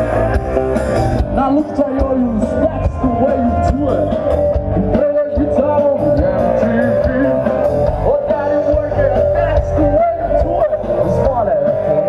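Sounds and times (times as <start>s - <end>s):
electric guitars: 0.0s - 12.0s
person singing: 1.4s - 12.0s.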